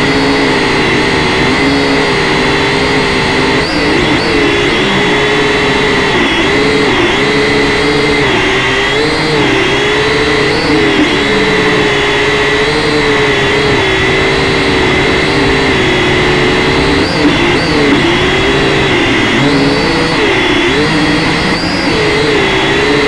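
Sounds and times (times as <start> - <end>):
quadcopter motors buzzing whine: 0.0 - 23.0.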